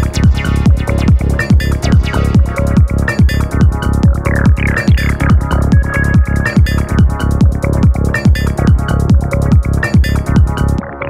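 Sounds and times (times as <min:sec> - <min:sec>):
kick drum: 0:00.0 - 0:10.6
hi-hats ticking: 0:00.0 - 0:10.8.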